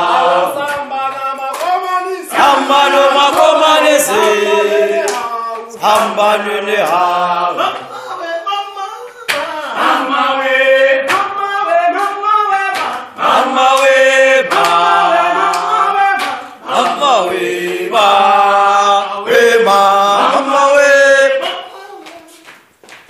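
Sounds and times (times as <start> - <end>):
group singing together: 0.0 - 22.5.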